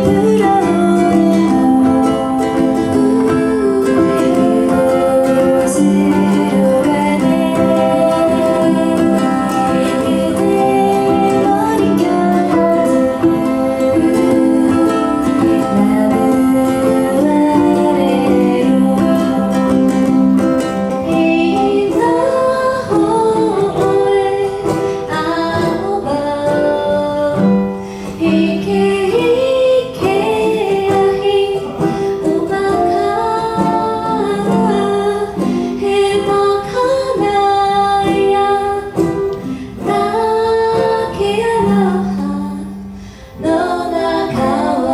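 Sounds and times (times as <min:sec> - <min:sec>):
person singing: 0:00.0 - 0:44.9
plucked string instrument: 0:00.0 - 0:44.9.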